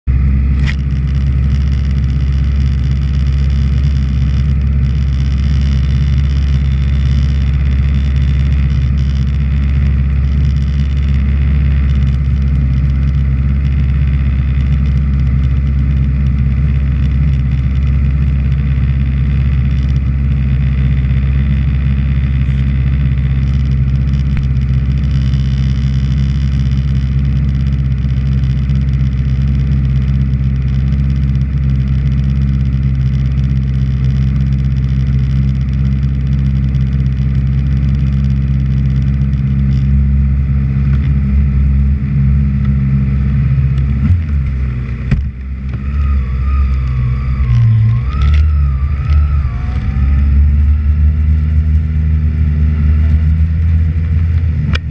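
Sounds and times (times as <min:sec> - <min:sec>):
motorcycle engine idling: 0:00.0 - 0:54.9.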